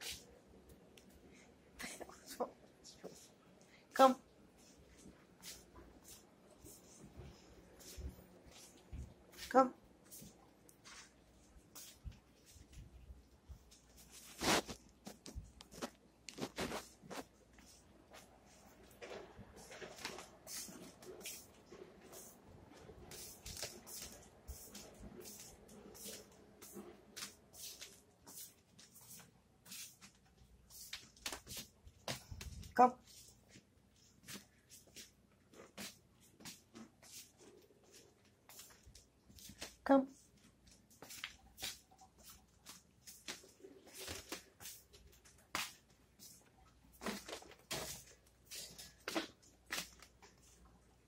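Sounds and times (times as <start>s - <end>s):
shuffling footsteps on hard floor: 4.5s - 50.6s.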